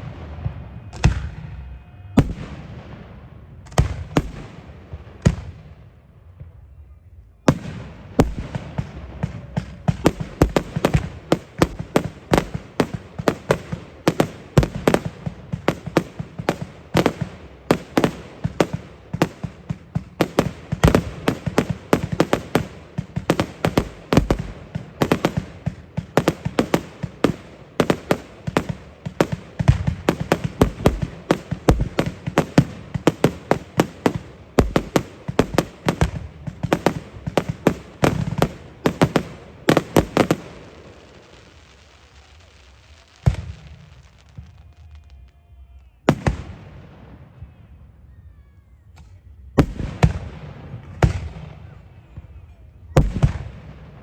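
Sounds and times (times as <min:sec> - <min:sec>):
fireworks bangs: 0:00.0 - 0:48.0, 0:48.9 - 0:54.0.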